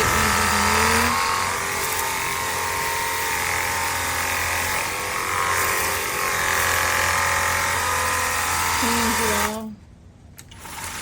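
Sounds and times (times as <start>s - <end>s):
pressure washer motor humming: 0.0s - 9.7s.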